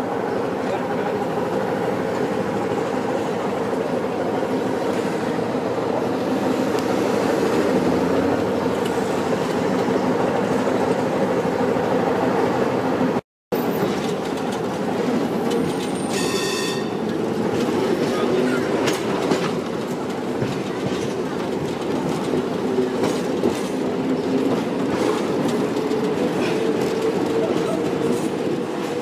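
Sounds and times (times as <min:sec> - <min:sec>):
tram rumbling on rails: 0:00.0 - 0:29.0.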